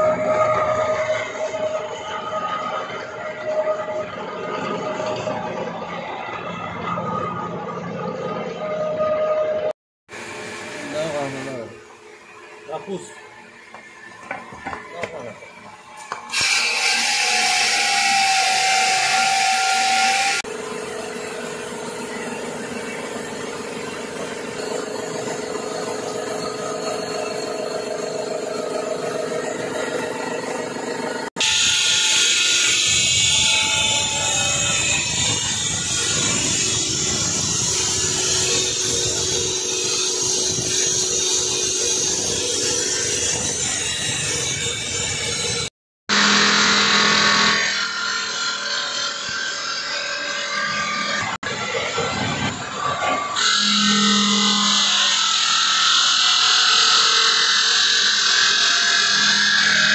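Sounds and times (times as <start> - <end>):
circular saw cutting stone: 10.1 - 59.9.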